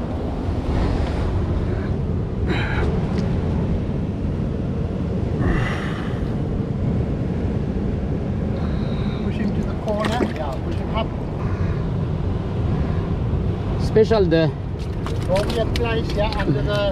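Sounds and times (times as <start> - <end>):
surf rumbling: 0.0 - 16.9
wind buffeting microphone: 0.0 - 16.9.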